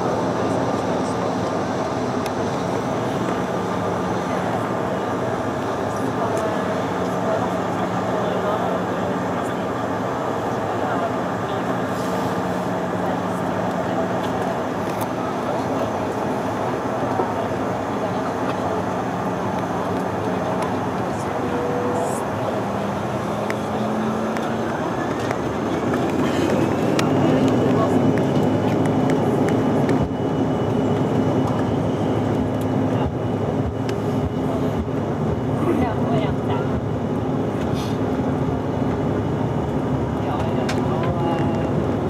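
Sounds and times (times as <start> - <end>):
jet engine drone in cabin: 0.0 - 42.0.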